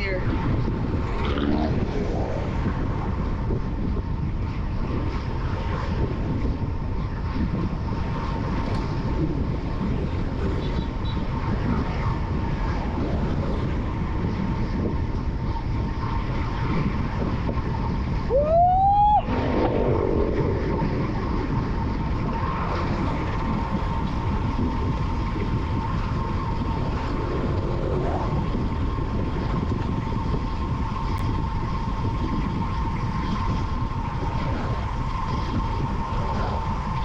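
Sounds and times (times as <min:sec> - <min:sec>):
loud pitched whine: 0:00.0 - 0:37.0
wind rushing over microphone: 0:00.0 - 0:37.0.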